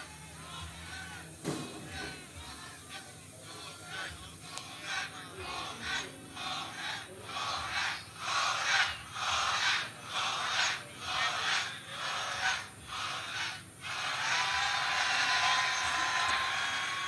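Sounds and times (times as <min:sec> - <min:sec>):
crowd chanting and shouting: 0:00.0 - 0:17.0.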